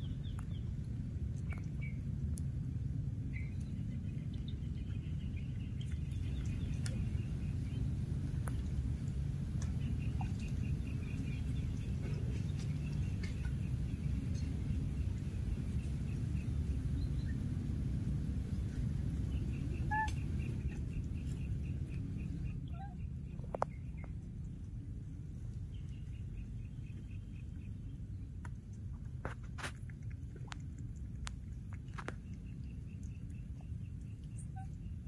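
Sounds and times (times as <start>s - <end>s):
faint rhythmic chirping: 0.0s - 29.4s, 30.6s - 35.0s
steady low rumble: 0.0s - 35.0s.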